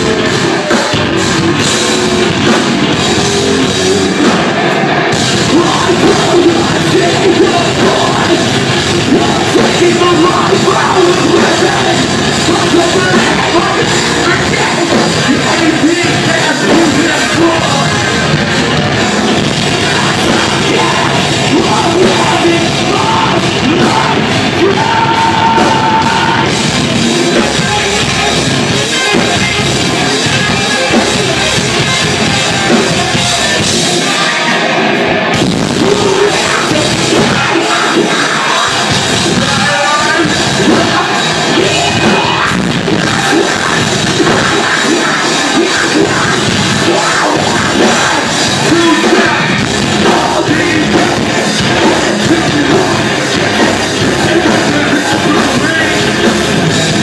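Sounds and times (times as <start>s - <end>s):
distorted electric guitars: 0.0s - 57.0s
drum kit: 0.0s - 57.0s
shouted vocals: 0.0s - 57.0s.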